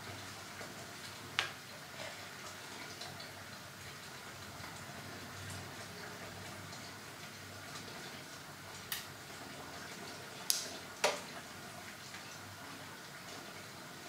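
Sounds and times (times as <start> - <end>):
faint room hiss: 0.0 - 14.0.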